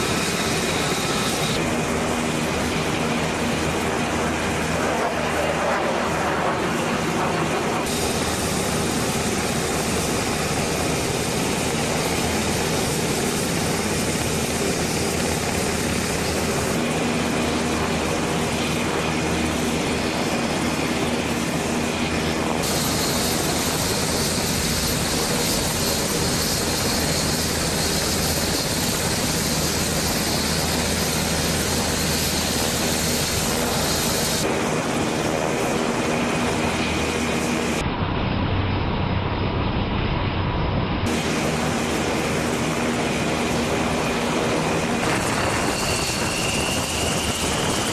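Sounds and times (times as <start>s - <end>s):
high hissing whine: 0.0s - 4.1s, 4.7s - 34.8s, 41.1s - 47.9s
helicopter engines and rotor: 0.0s - 47.9s.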